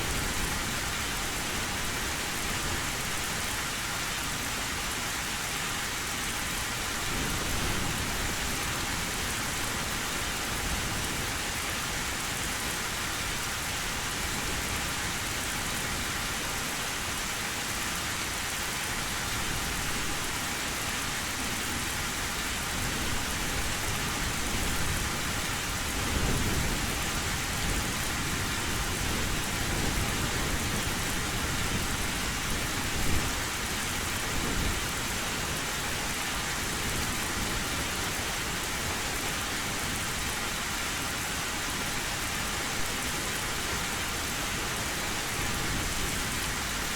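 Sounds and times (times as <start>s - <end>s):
heavy rain on a metal roof: 0.0s - 46.9s.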